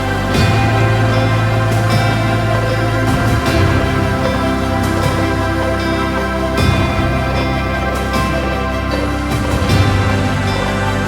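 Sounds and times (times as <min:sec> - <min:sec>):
background music with layered tones: 0:00.0 - 0:11.0.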